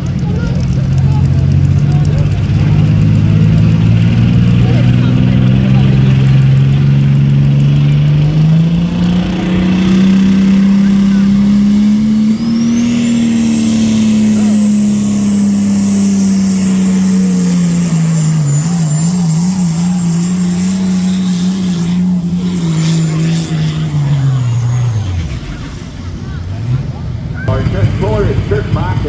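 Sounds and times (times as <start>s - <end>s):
high whine: 0.0s - 29.0s
tractor engine at high revs: 0.0s - 29.0s.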